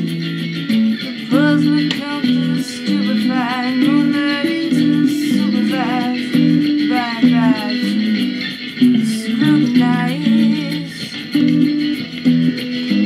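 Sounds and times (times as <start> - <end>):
plucked guitar chords: 0.0 - 13.0
person singing with vibrato: 0.9 - 11.8.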